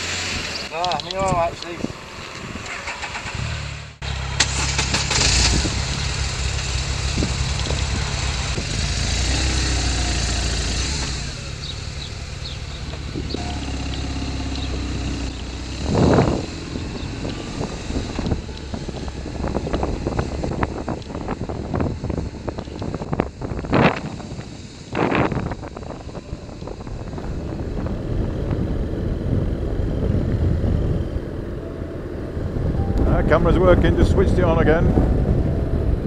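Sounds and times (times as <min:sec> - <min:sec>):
road and rushing air noise: 0:00.0 - 0:36.0
motorcycle engine running: 0:03.6 - 0:34.0.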